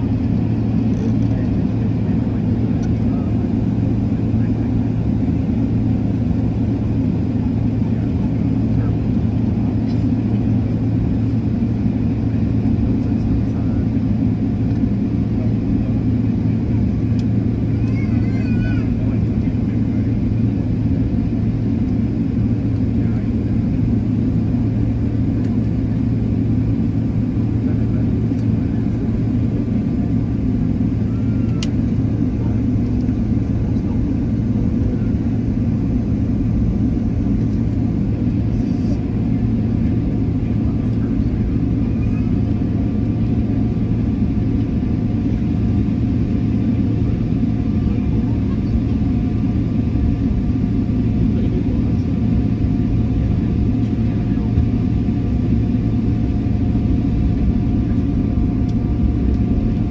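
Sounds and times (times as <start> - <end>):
cabin air system hum: 0.0 - 59.9
jet engines humming: 0.0 - 59.9.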